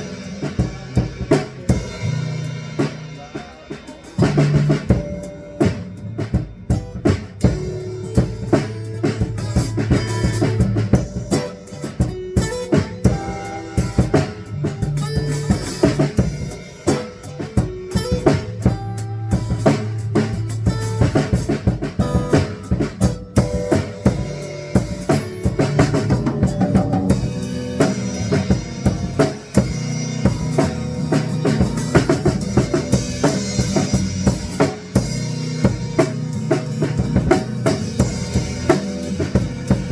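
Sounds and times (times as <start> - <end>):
bass guitar: 0.0 - 3.5, 4.2 - 39.9
drum kit steady beat: 0.0 - 39.9
electric guitar: 4.9 - 39.9.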